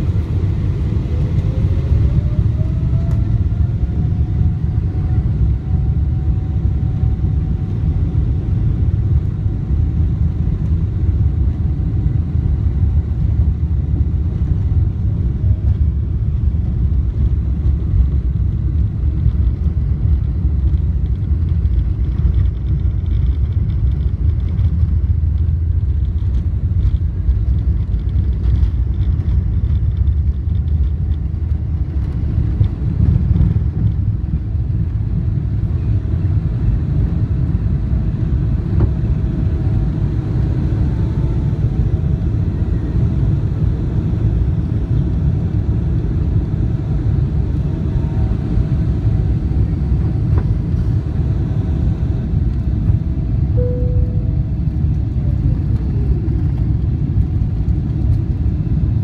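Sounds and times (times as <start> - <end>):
jet engines deep rumble: 0.0 - 59.0.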